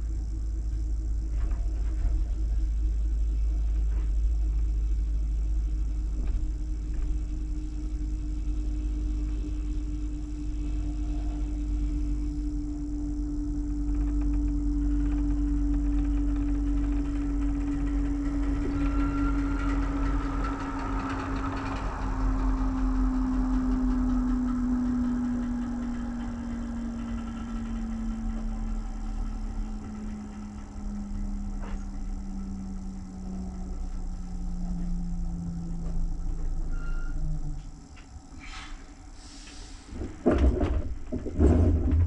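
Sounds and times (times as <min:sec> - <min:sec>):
train running rumble: 0:00.0 - 0:42.0
steady falling tone: 0:01.2 - 0:38.4.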